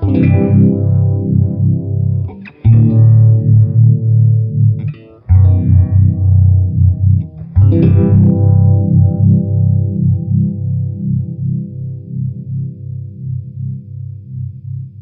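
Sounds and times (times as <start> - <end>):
electric guitar chords with phaser: 0.0 - 15.0.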